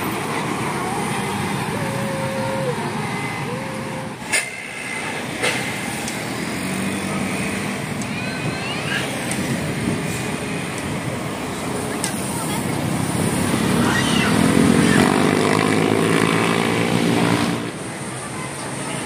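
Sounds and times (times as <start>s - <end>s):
heavy vehicles passing: 0.0s - 19.0s.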